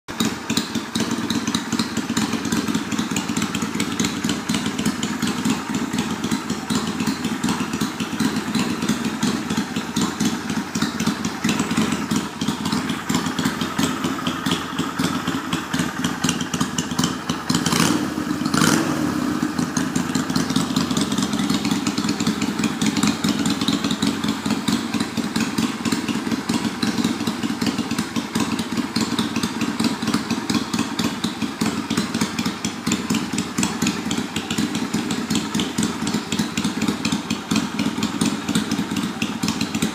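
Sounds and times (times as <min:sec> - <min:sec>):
motorcycle engine idling: 0:00.1 - 0:39.9.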